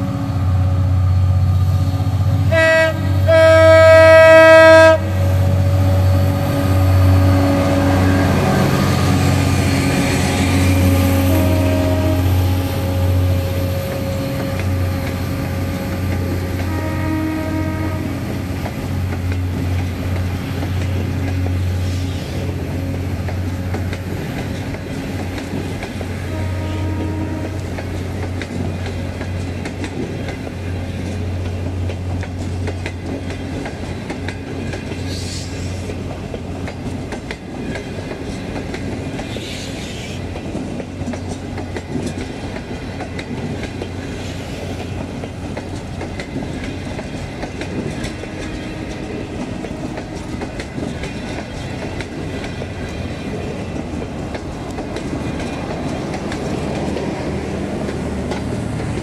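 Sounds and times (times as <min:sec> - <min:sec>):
wheels clacking over rail joints: 0:05.6 - 0:59.0.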